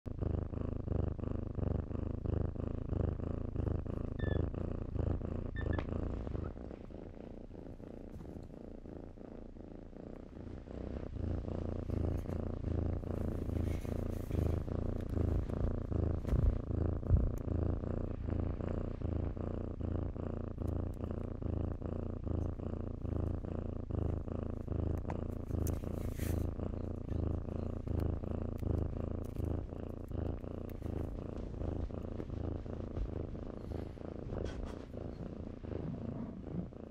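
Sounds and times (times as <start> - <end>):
kitten purring: 0.0 - 36.9.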